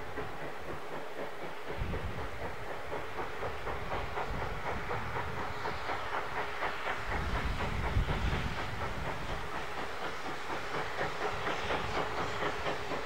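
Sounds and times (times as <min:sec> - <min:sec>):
steam hissing: 0:00.0 - 0:13.0
steam locomotive exhaust beats: 0:00.0 - 0:13.0.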